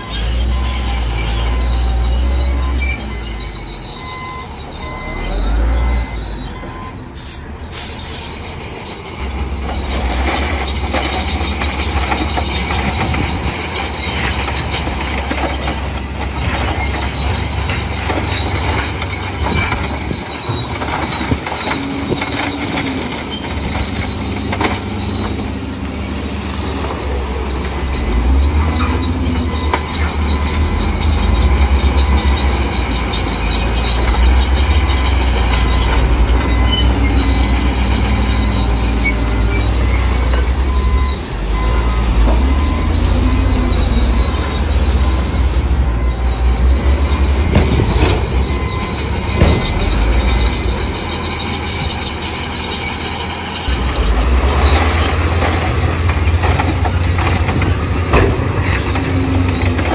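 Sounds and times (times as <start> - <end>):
deep diesel engine rumble: 0.0 - 59.9.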